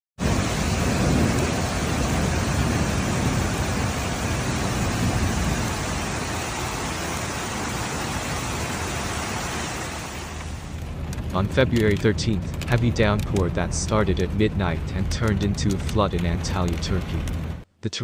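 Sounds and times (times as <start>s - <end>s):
deep rumble: 0.2s - 9.1s, 9.9s - 17.6s
torrential rain pouring: 0.2s - 17.6s.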